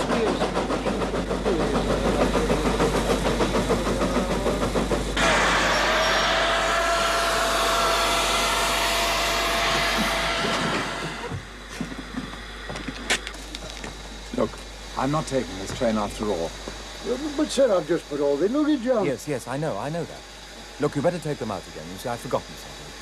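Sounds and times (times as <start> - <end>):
steam hissing: 0.0 - 23.0
train rhythmic clatter: 0.0 - 23.0.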